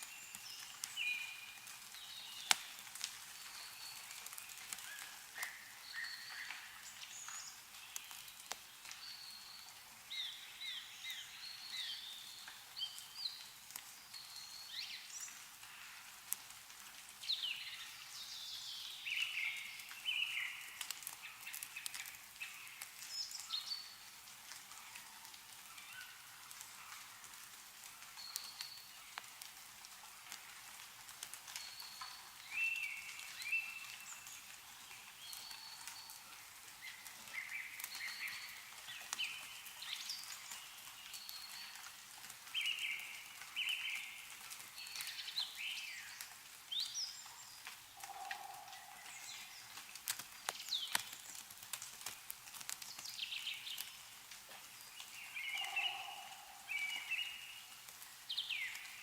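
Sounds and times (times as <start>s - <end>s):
meltwater dripping: 0.0s - 59.0s
small birds chirping: 0.0s - 59.0s.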